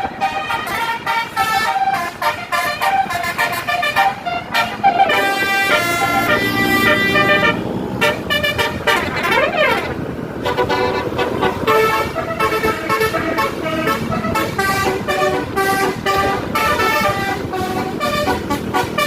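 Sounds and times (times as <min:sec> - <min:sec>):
bus horn playing a tune: 0:00.0 - 0:19.0.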